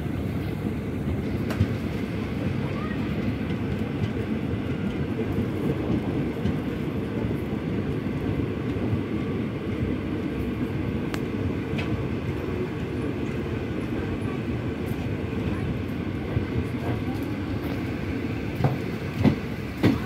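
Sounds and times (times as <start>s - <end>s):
train coach rumbling on track: 0.0s - 20.0s.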